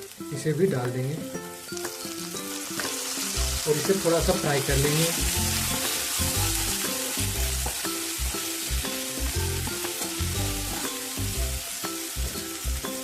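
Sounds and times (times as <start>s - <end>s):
vegetables frying in hot oil: 0.0s - 13.0s.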